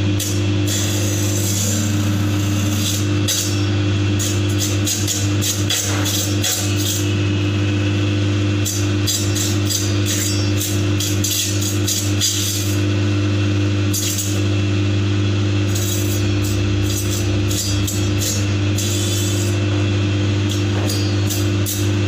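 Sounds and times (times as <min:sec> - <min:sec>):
machine motor humming: 0:00.0 - 0:04.9, 0:06.8 - 0:22.0.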